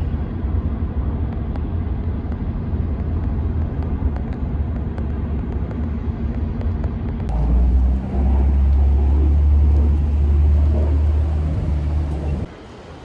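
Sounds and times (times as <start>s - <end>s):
airliner cabin rumble: 0.0s - 12.5s.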